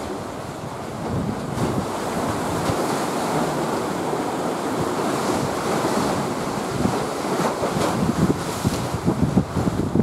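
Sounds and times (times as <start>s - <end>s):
waves breaking on rocks: 0.0s - 10.0s
wind on microphone: 0.0s - 10.0s.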